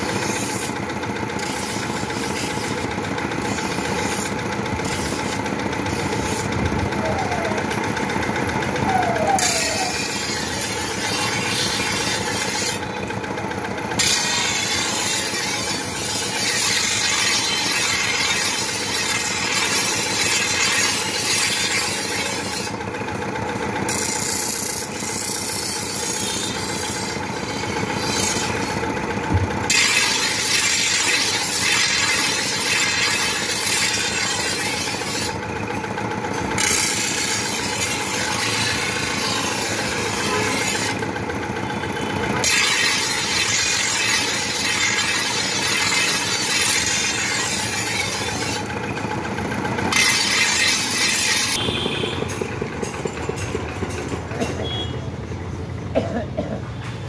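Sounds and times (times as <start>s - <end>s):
blade grinding on a wheel: 0.0s - 54.9s
stationary engine running: 0.0s - 56.0s.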